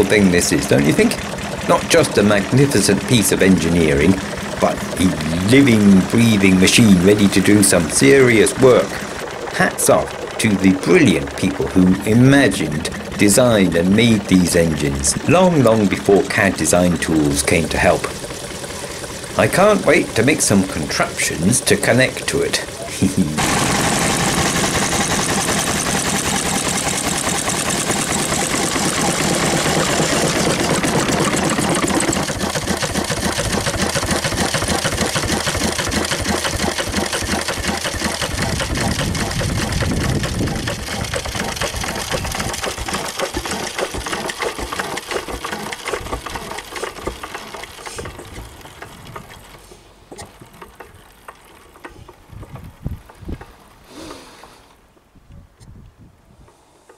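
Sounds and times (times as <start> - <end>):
diesel engine running: 0.0 - 53.8.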